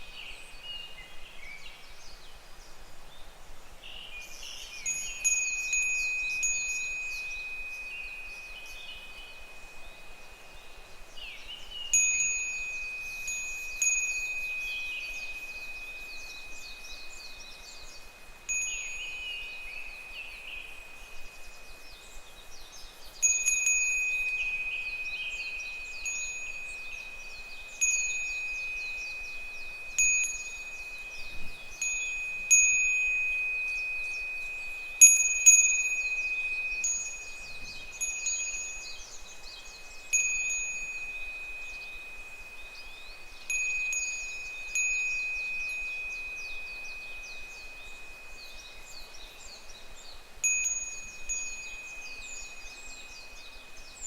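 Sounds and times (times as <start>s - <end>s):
cicadas calling: 0.0s - 54.0s
wind chime ringing: 4.8s - 10.6s, 11.9s - 17.4s, 18.0s - 21.7s, 23.2s - 54.0s.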